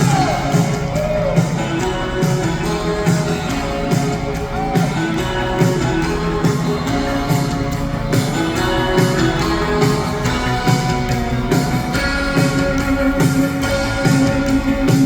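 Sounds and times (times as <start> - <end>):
electric guitars: 0.0 - 15.0
steady drum beat: 0.0 - 15.0.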